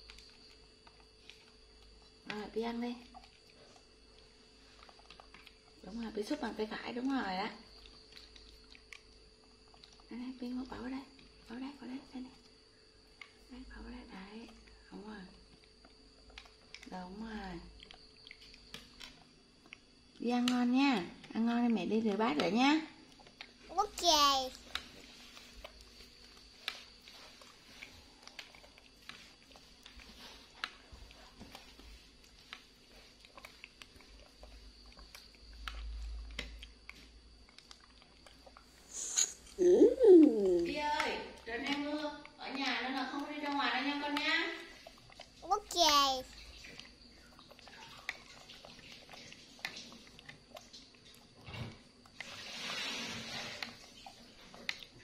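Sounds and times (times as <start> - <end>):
soft chewing: 0.0 - 55.0.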